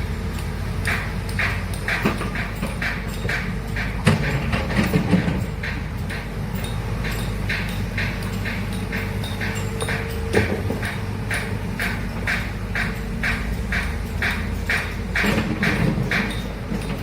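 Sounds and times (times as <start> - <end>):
low engine drone: 0.0 - 17.0
regular clacking: 0.0 - 17.0.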